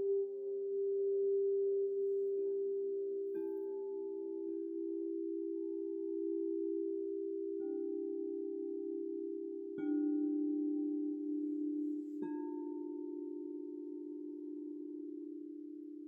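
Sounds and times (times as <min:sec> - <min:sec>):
bowl struck: 0:00.0 - 0:16.0
singing bowls ringing: 0:00.0 - 0:16.0.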